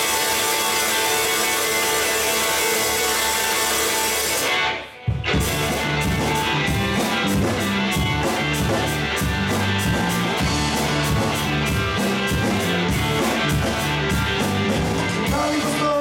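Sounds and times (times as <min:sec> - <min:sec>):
electric guitar: 0:00.0 - 0:16.0
live rock band playing: 0:00.0 - 0:16.0.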